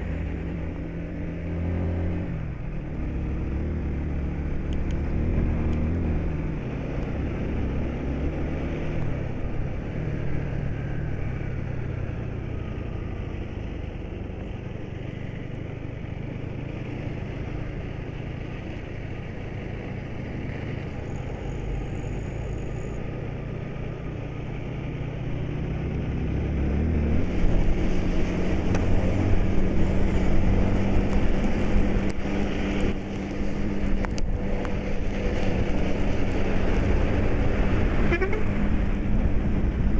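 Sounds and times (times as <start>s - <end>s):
tyre and road noise: 0.0s - 39.9s
vehicle engine running: 0.0s - 39.9s.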